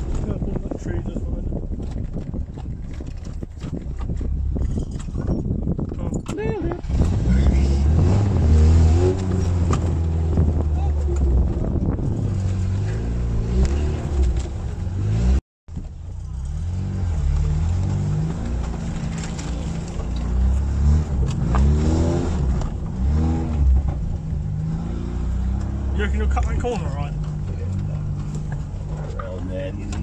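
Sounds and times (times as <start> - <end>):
off-road car engine revving: 0.0 - 30.0.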